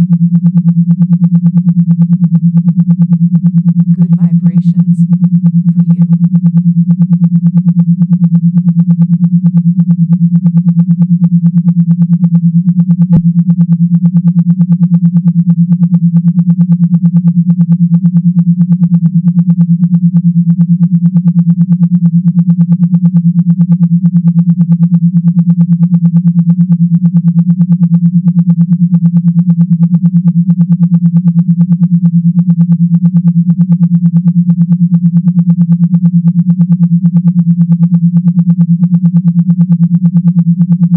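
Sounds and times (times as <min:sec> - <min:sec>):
pulsing electronic buzz tone: 0:00.0 - 0:40.9.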